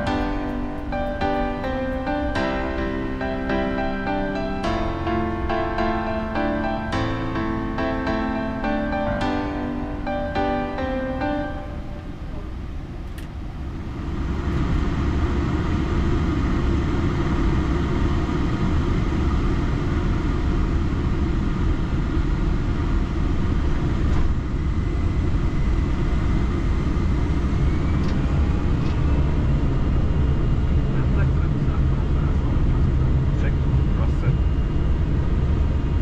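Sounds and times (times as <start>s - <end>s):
aircraft cockpit rumble: 0.0s - 36.0s.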